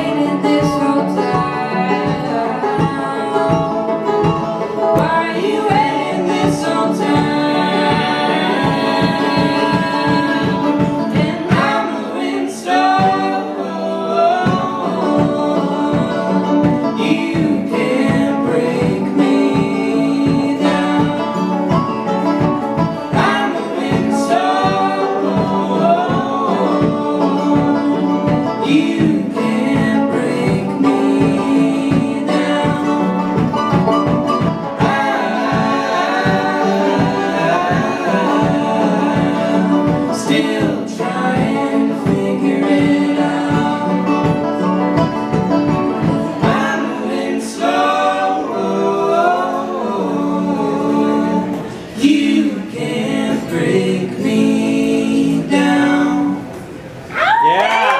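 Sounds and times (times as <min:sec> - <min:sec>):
banjo strumming: 0:00.0 - 0:57.0
acoustic guitar strumming: 0:00.0 - 0:57.1
voices singing in harmony: 0:00.0 - 0:57.9.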